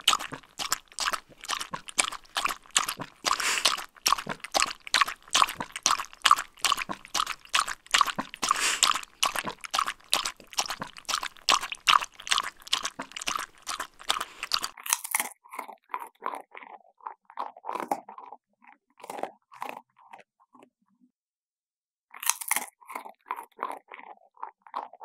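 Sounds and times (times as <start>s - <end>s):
dog chewing and crunching: 0.0s - 20.2s, 22.2s - 25.0s.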